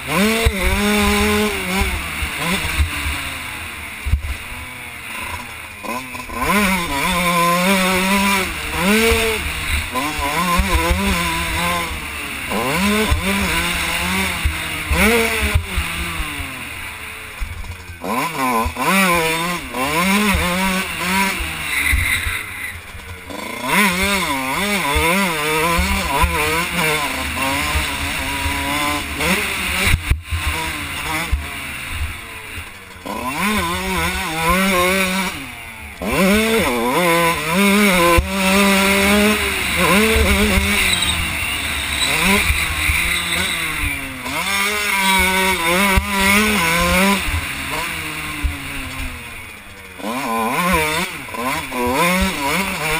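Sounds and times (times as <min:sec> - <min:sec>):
two-stroke motorcycle engine revving: 0:00.0 - 0:52.9.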